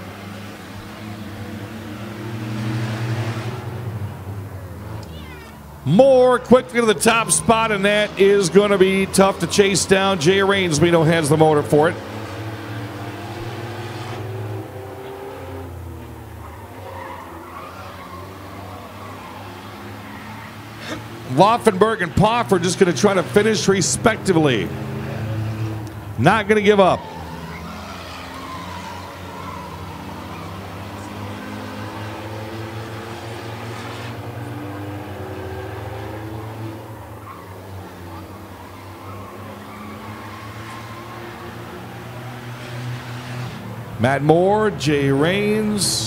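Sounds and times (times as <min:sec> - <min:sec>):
race car engines: 0:00.0 - 0:46.0.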